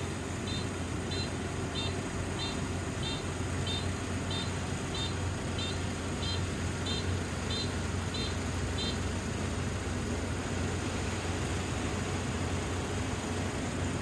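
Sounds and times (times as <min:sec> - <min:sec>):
combine harvester engine drone: 0:00.0 - 0:14.0.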